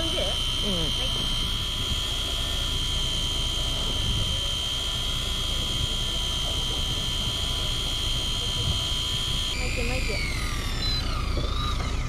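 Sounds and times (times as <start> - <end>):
electric fishing reel whine: 0.0 - 12.0
low steady rumble: 0.0 - 12.0.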